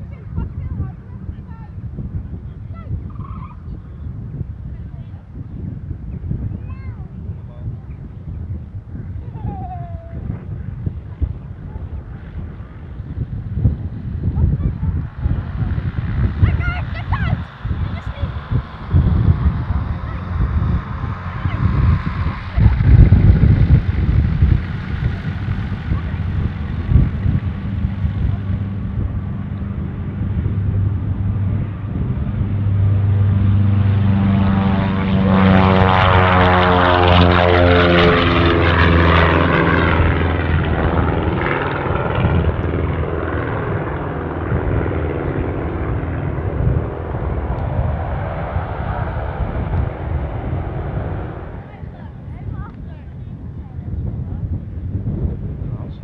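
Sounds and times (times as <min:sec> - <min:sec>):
propeller airplane engine drone: 0:00.0 - 0:56.0.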